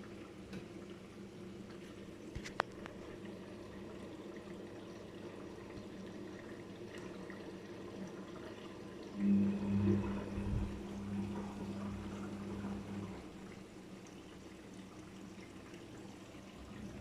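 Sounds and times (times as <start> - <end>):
washing machine motor humming: 0.0 - 17.0
water running into tub: 0.0 - 17.0.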